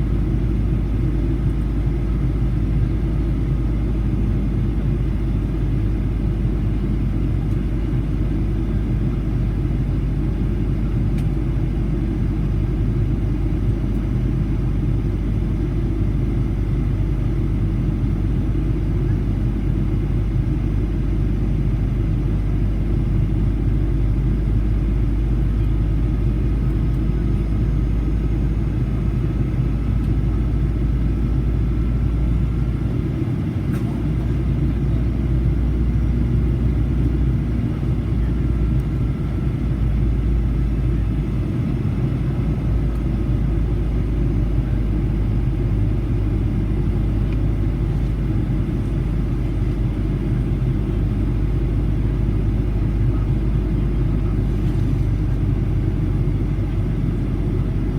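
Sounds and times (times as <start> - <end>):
jet engines rumbling in cabin: 0.0 - 57.9.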